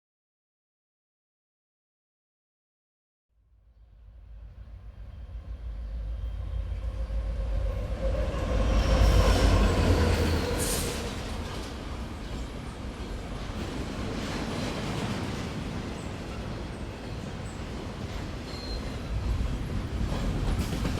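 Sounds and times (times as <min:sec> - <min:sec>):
train rumbling: 0:03.7 - 0:20.9.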